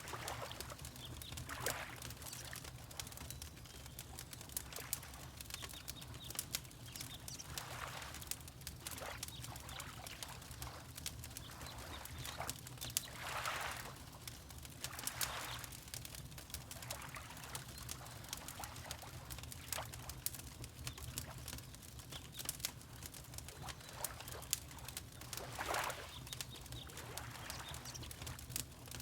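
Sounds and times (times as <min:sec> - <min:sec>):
water lapping: 0:00.0 - 0:03.2, 0:04.1 - 0:21.3, 0:22.4 - 0:29.0
wood fire crackling: 0:00.0 - 0:29.0.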